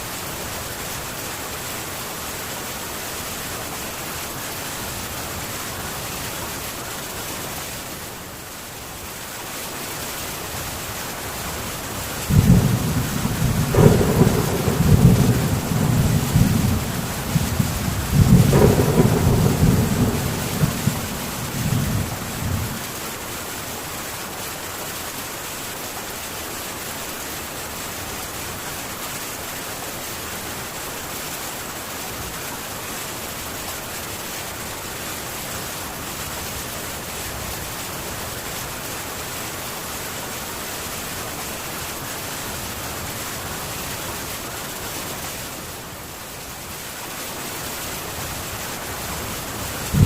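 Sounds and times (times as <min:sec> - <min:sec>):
heavy rain on a tin roof: 0:00.0 - 0:50.0.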